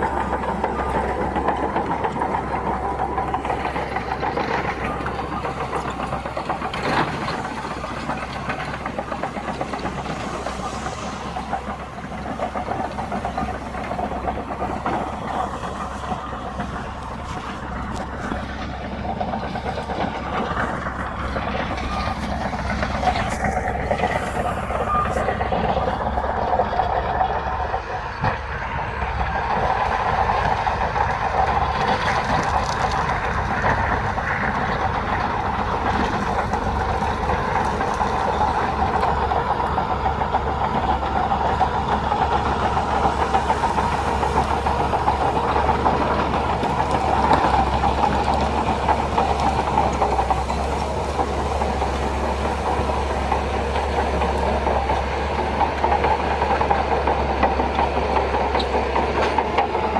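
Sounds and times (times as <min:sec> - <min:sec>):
diesel engine running: 0:00.0 - 0:59.9
steel tracks clattering: 0:00.0 - 0:59.9.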